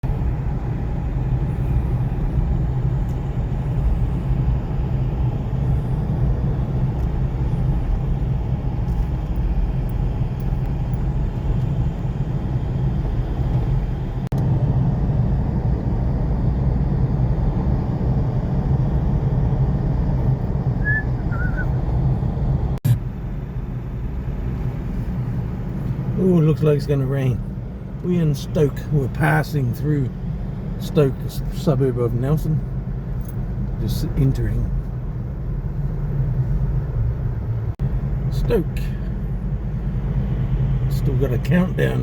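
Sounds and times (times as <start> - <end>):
engine and road rumble in cabin: 0.0 - 42.0.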